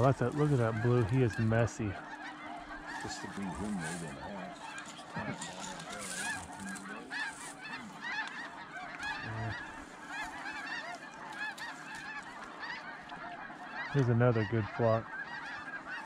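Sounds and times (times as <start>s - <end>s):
geese honking in a flock: 0.0s - 16.0s.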